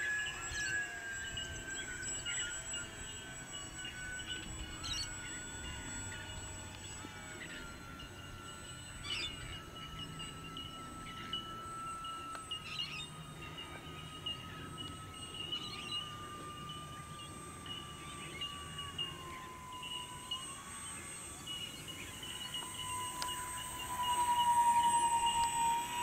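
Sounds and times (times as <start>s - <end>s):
birds chirping: 0.0s - 26.0s
model plane motors whining: 0.0s - 26.0s.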